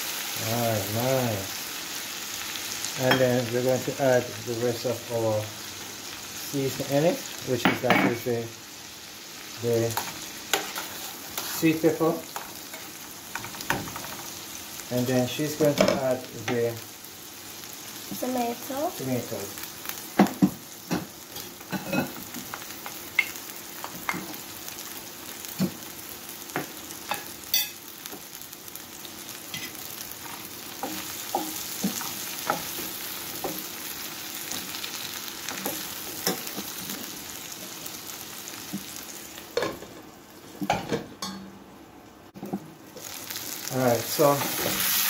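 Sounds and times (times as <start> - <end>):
food sizzling in a frying pan: 0.0 - 45.0.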